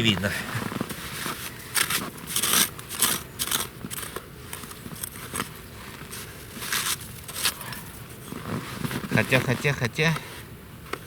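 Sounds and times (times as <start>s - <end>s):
scraping crunches: 0.2s - 9.8s.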